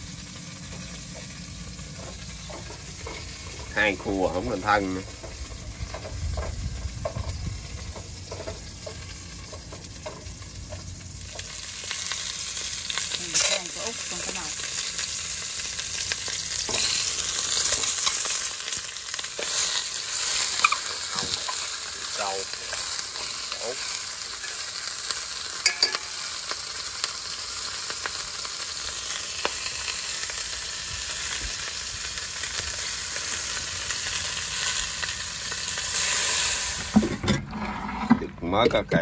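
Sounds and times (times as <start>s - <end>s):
fish sizzling in a pot: 0.0s - 37.3s.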